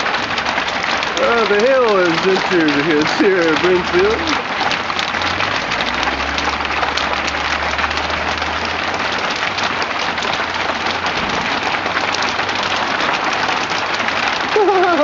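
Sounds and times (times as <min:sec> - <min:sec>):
hail pattering on hard surfaces: 0:00.0 - 0:15.0.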